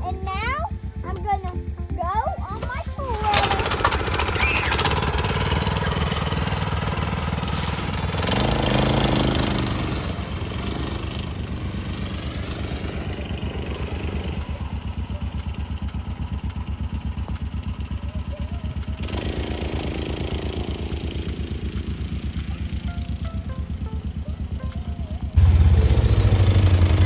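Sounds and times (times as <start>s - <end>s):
small atv engine puttering: 0.0s - 27.0s.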